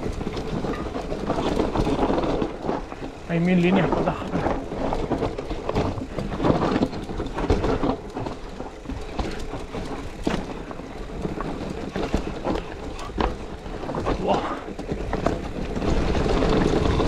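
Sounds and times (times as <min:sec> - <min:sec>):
bike rattling and knocking: 0:00.0 - 0:17.0
tyres rolling over dirt and stones: 0:00.0 - 0:17.0.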